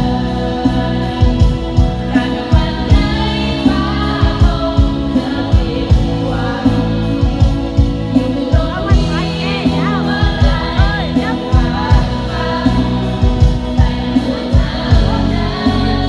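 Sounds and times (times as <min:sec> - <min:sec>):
song with sung vocals and beat: 0:00.0 - 0:16.0.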